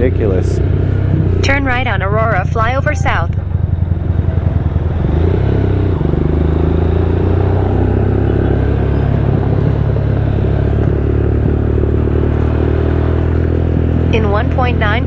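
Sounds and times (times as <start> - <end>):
motorcycle engine at low revs: 0.0 - 2.8, 3.4 - 15.0.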